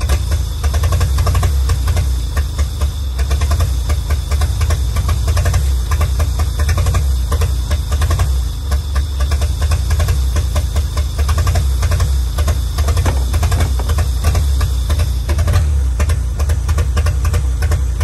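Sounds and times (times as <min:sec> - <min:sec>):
old truck engine running: 0:00.0 - 0:18.0.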